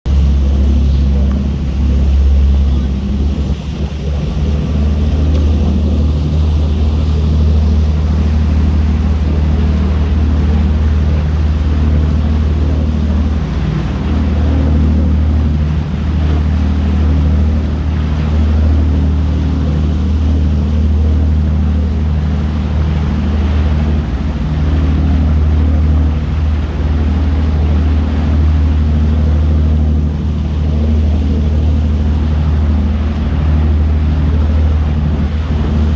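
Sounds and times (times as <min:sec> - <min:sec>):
boat engine droning: 0:00.0 - 0:35.9
steady hum: 0:00.1 - 0:35.9.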